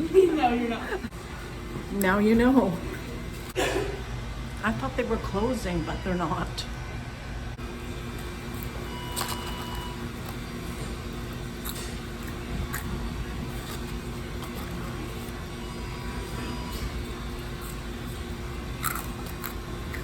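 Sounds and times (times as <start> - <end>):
ventilation equipment humming: 0.0 - 20.0.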